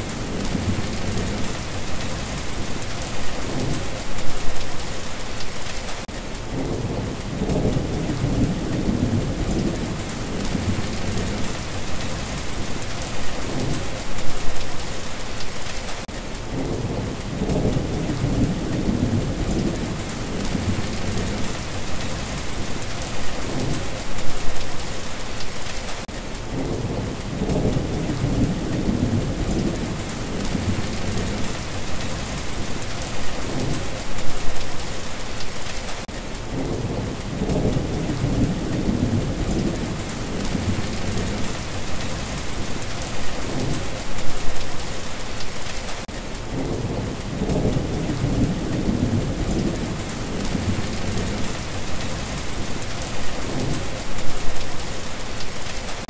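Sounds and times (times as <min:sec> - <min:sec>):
thunder rumbling: 0:00.0 - 0:04.6, 0:06.5 - 0:14.6, 0:16.5 - 0:24.6, 0:26.5 - 0:34.8, 0:36.5 - 0:44.8, 0:46.5 - 0:55.6
steady rain: 0:00.0 - 0:56.0.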